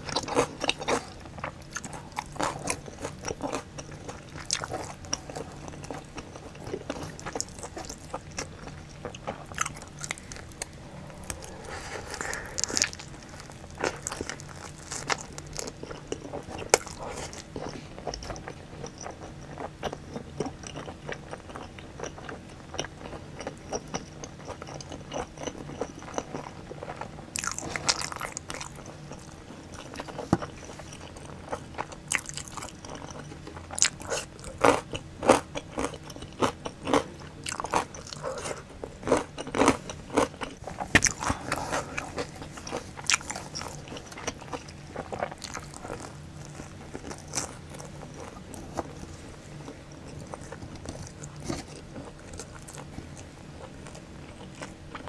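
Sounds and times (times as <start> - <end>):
crunchy food chewing: 0.0 - 55.0.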